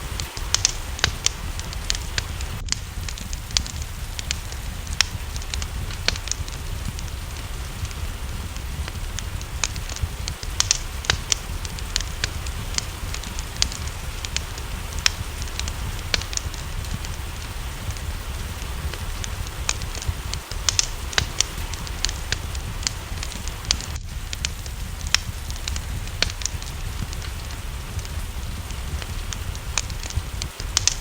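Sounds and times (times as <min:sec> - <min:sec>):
low rumble: 0:00.0 - 0:31.0
rain hissing: 0:00.0 - 0:31.0
wood fire crackling: 0:00.0 - 0:31.0.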